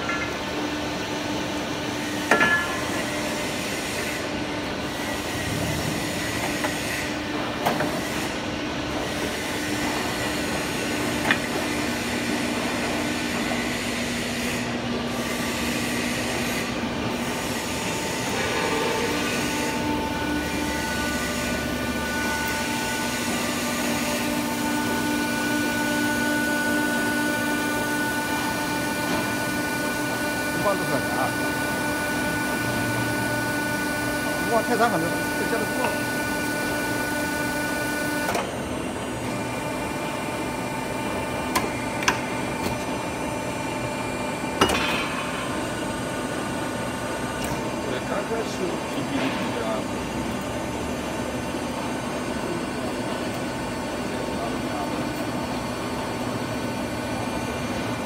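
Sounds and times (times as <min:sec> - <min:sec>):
pipe bending machine hum: 0:00.0 - 0:58.0.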